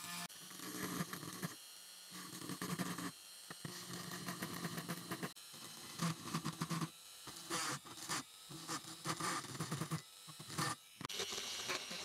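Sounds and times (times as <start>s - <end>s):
drill bit grinding metal: 0.0s - 12.0s
rotary tool motor humming: 0.0s - 12.0s.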